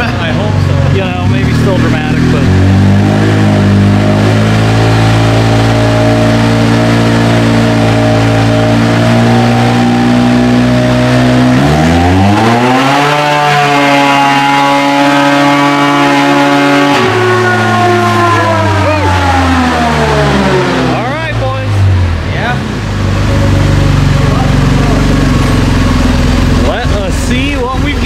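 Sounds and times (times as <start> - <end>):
turbocharged engine revving: 0.0 - 28.0.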